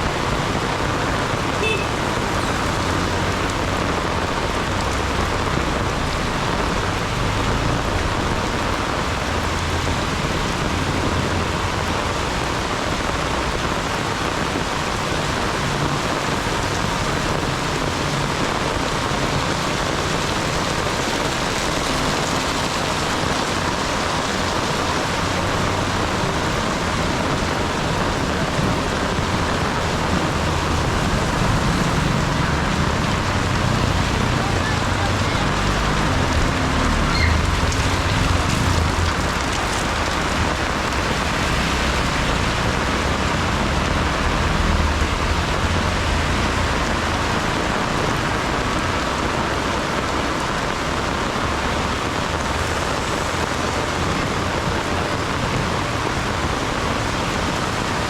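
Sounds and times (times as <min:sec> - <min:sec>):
heavy rain falling: 0:00.0 - 0:58.0
low rumble of road traffic: 0:00.0 - 0:58.0.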